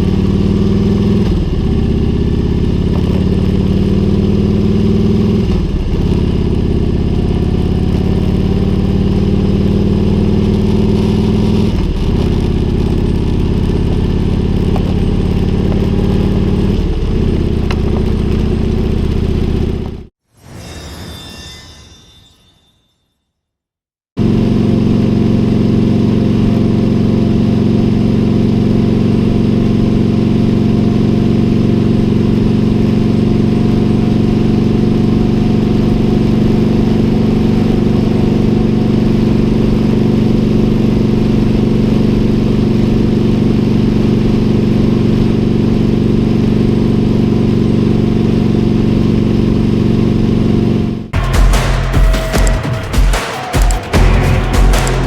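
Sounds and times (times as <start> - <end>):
motorcycle engine running: 0.0 - 20.1, 24.2 - 55.0.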